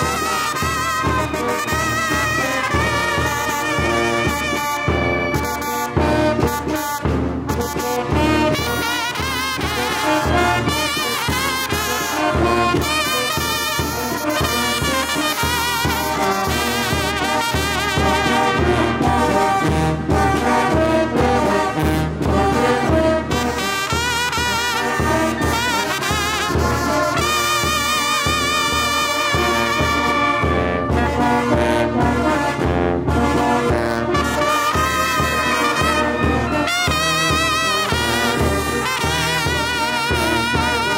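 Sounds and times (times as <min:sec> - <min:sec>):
wind band playing: 0:00.0 - 0:40.9.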